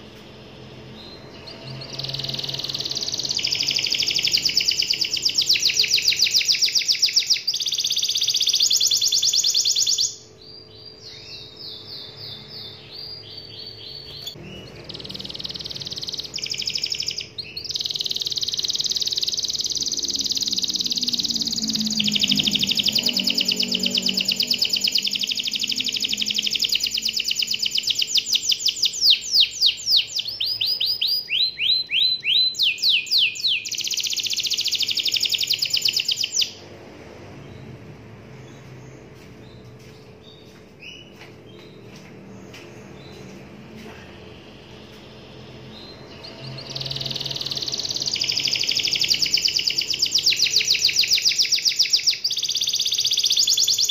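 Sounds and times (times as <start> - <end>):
canary singing trills: 0.0 - 36.6, 37.4 - 53.9.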